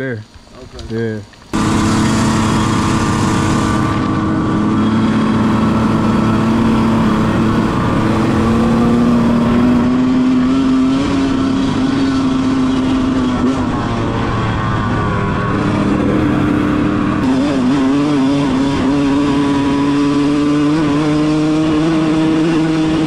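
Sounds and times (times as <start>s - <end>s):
dirt bike engine running: 1.5s - 23.0s.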